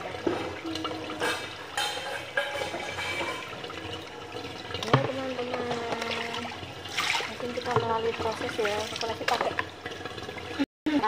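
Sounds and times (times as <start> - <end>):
hose water splashing on tiles: 0.0 - 11.0.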